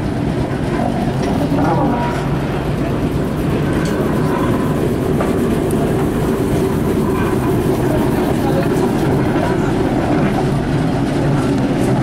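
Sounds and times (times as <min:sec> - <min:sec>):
locomotive rumbling along track: 0:00.0 - 0:12.0.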